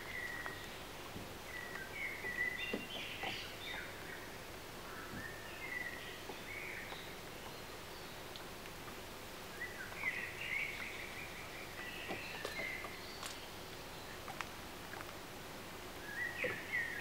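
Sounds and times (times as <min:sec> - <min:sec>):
faint outdoor background hiss: 0:00.0 - 0:17.0
songbird singing: 0:00.0 - 0:17.0.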